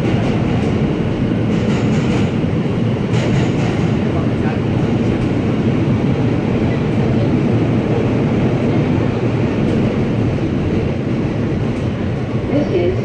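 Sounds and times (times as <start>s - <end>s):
subway train rumbling in tunnel: 0.0s - 13.0s.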